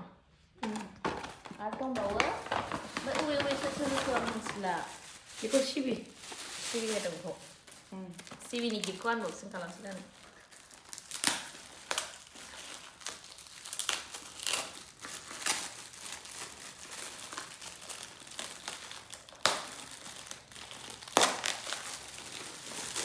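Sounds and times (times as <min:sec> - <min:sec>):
gift wrapping crinkling: 0:00.6 - 0:23.0.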